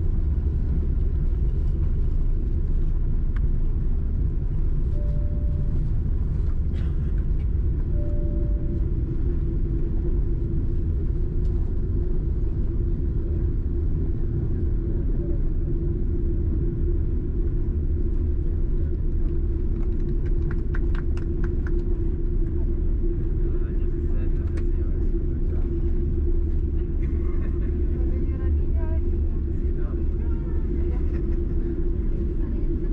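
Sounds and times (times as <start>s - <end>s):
airliner cabin rumble: 0.0s - 32.9s
steady hum: 0.0s - 32.9s.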